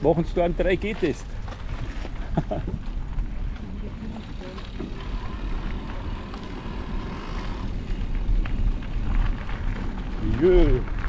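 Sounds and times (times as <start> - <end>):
bicycle tyres rolling on gravel: 0.0 - 11.0
wind rumbling on microphone: 0.0 - 11.0.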